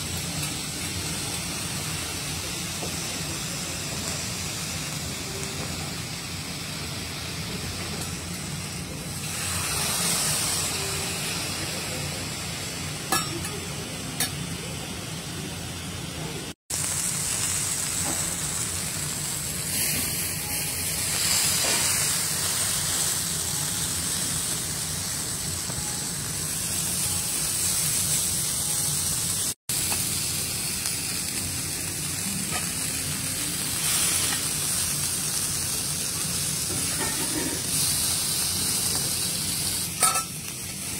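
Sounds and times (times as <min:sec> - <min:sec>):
steaks sizzling on a griddle: 0:00.0 - 0:14.0, 0:16.7 - 0:40.9.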